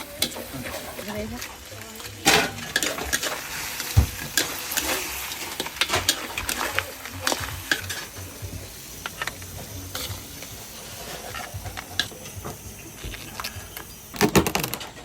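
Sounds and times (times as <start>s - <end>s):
food sizzling in hot oil: 0.0s - 15.0s
utensils clinking: 0.0s - 15.0s.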